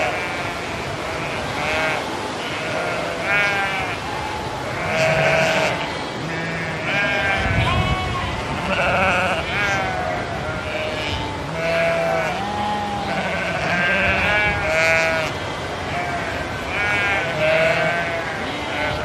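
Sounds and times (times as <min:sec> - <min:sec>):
sheep bleating: 0:00.0 - 0:19.0.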